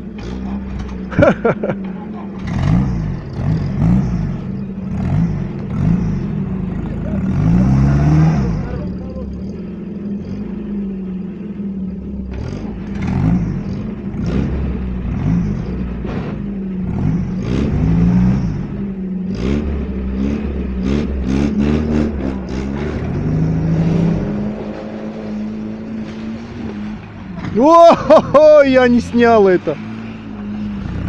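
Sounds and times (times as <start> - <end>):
engine revving: 0.0 - 31.0.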